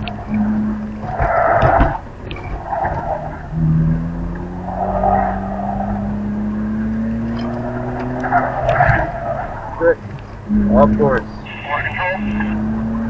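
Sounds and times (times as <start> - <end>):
car engine pulling under load: 0.0 - 11.5, 12.3 - 13.0
tyre noise: 0.0 - 13.0.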